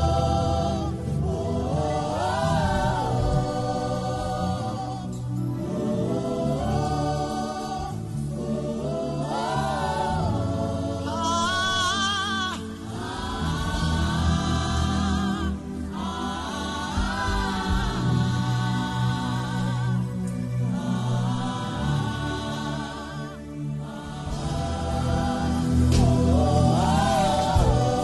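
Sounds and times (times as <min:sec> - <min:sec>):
low sustained backing tones: 0:00.0 - 0:28.0.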